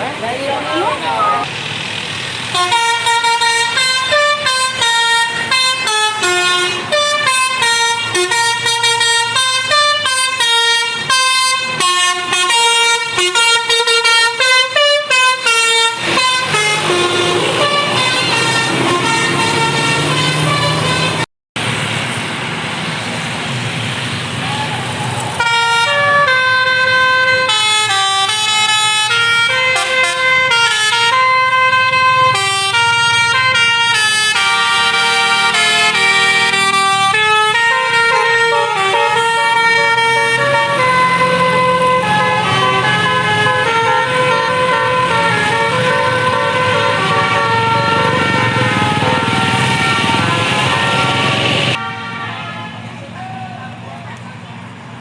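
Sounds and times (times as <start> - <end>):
multi-tone air horn melody: 2.5 - 21.2, 25.4 - 52.9.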